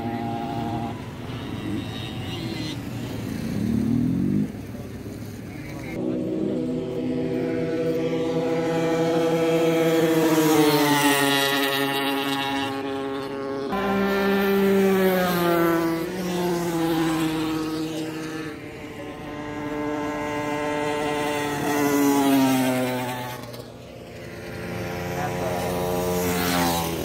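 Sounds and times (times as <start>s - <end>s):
racing motorcycles passing: 0.0s - 27.0s.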